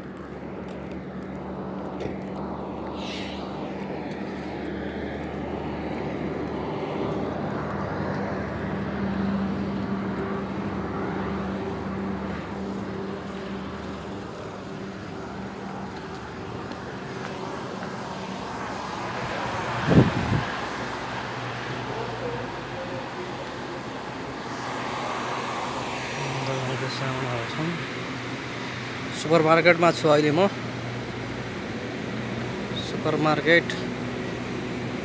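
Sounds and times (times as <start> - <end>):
engine hum: 0.0 - 35.0
road traffic noise: 0.0 - 35.0.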